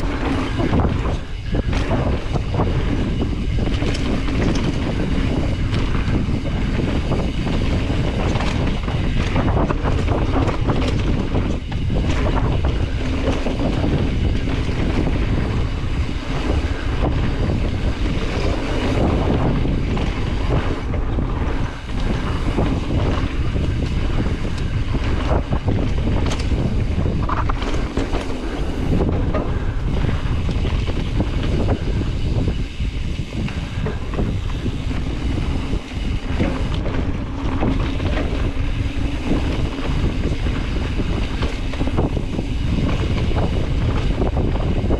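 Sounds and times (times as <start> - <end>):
bike knocks and rattles: 0.0 - 44.9
wind buffeting microphone: 0.0 - 44.9.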